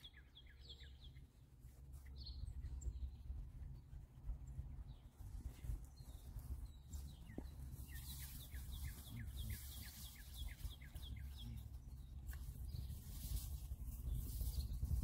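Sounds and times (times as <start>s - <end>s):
bird chirps: 0.0s - 4.0s, 4.6s - 15.0s
songbird singing: 0.0s - 15.0s.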